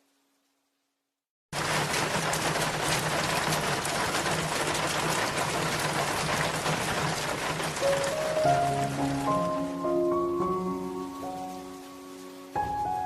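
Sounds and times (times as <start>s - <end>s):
rushing water: 1.6s - 13.0s.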